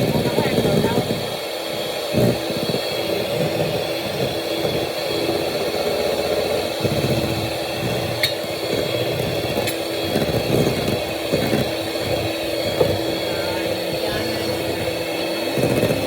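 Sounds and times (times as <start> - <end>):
electric hand mixer running: 0.0 - 16.0.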